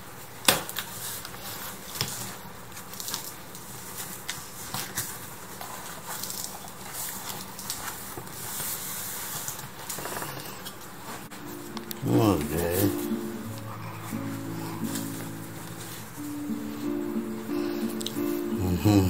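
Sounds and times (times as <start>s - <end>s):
cardboard and packing rustling: 0.8s - 16.5s.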